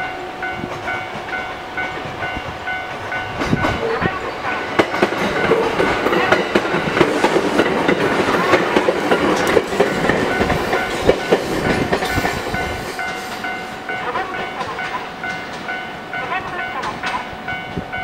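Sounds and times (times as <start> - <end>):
electric train wheels clacking: 0.0 - 18.0.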